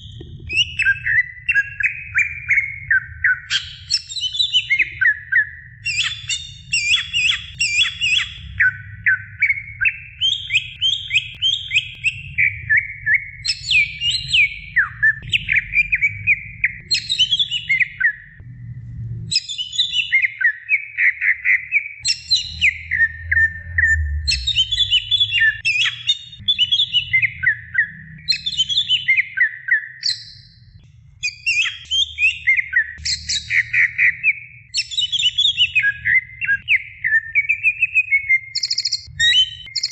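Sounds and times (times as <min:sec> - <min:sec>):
bird singing whistled notes: 0:00.0 - 0:18.4, 0:19.3 - 0:39.9.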